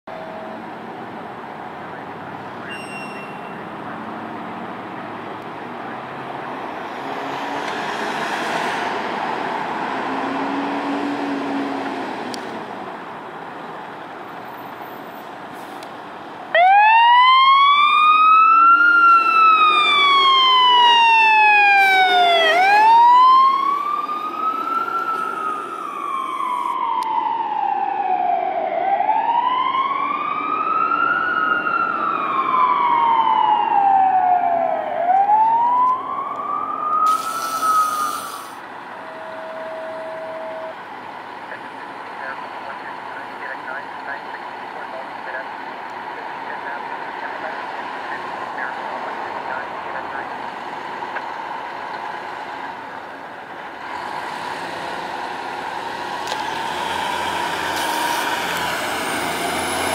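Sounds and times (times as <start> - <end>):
fire engine siren wailing: 0.1 - 59.9
traffic rumble: 0.1 - 59.9.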